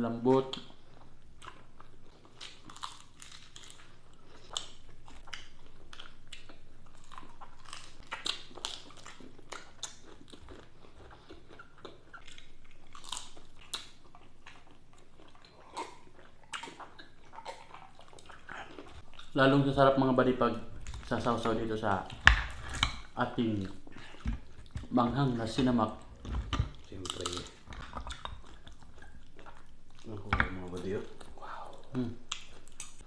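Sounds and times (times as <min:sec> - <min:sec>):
chewing and crunching: 0:00.2 - 0:33.0.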